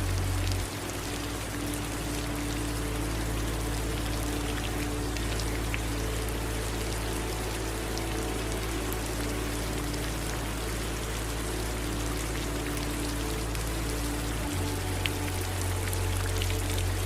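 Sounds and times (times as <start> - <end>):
low steady hum: 0.0 - 17.0
steady rain falling: 0.0 - 17.0.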